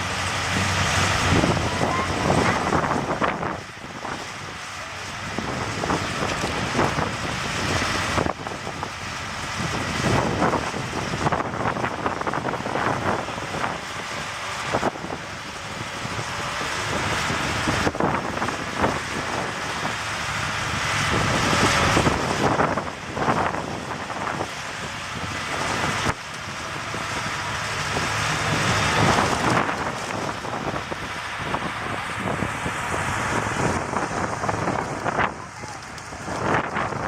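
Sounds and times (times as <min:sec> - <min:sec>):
vehicle engines revving: 0:00.0 - 0:37.0
wind buffeting microphone: 0:00.0 - 0:37.0.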